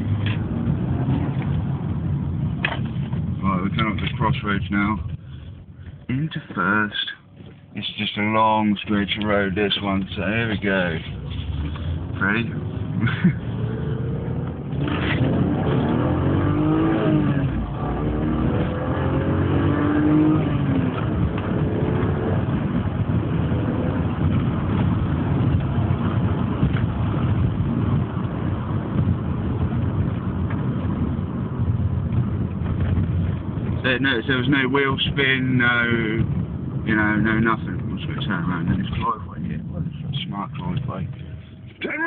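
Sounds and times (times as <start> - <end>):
car engine accelerating: 0.0 - 5.2, 9.2 - 41.8
road noise: 0.0 - 42.0.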